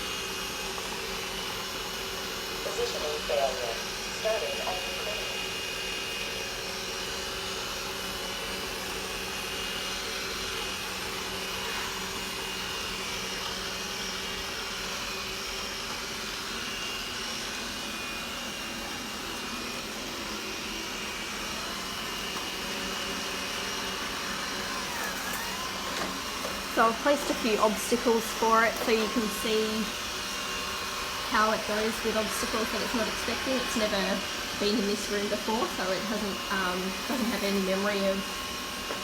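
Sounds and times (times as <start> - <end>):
robot vacuum cleaner whirring: 0.0 - 39.0.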